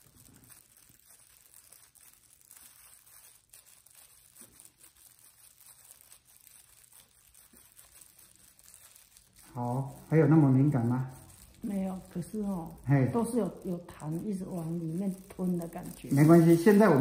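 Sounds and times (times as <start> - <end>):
faint rustling: 0.0 - 17.0.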